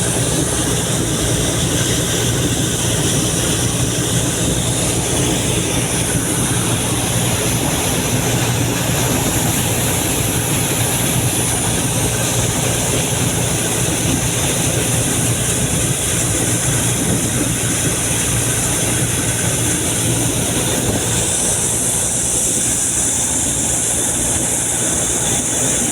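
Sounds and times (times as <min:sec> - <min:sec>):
air compressor hissing: 0:00.0 - 0:25.9.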